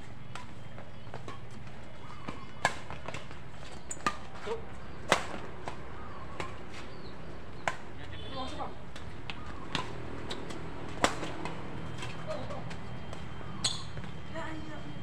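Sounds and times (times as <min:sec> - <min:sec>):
rackets hitting shuttlecock: 0:00.3 - 0:14.2.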